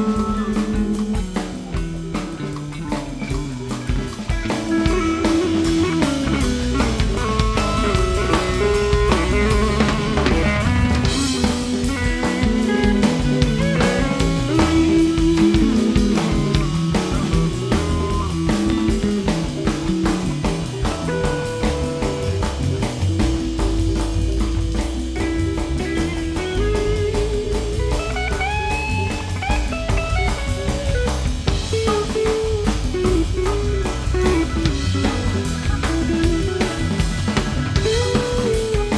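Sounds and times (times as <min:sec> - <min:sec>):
blues-rock music with electric guitar: 0:00.0 - 0:38.9.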